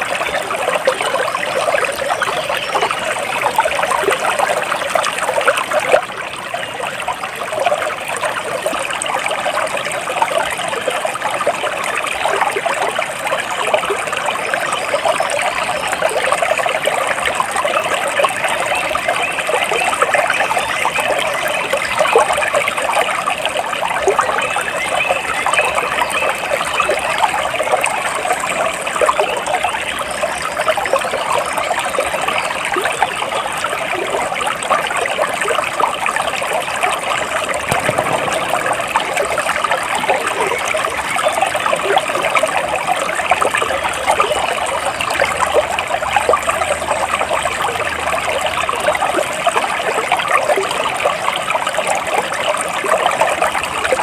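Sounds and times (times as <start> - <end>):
water trickling and gurgling: 0.0 - 54.0.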